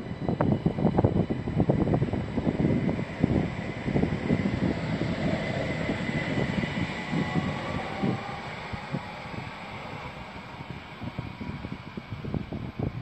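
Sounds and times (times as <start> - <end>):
faint high whine: 0.0 - 13.0
train wheels rumbling on track: 0.0 - 13.0.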